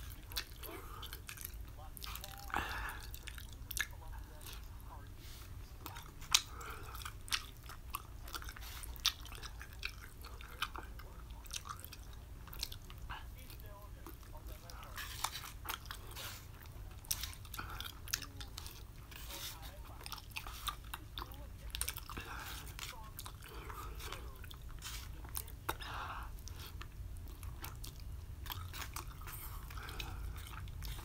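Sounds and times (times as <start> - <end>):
person chewing noodles: 0.0 - 31.0.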